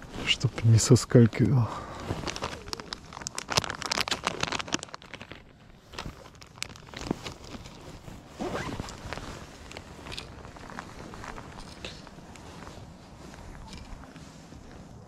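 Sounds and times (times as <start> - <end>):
gloved hands rustling tackle: 2.0 - 15.0.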